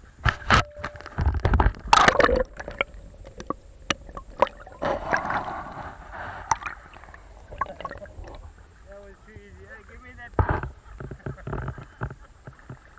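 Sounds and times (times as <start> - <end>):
water splashing and sloshing: 0.4 - 12.9.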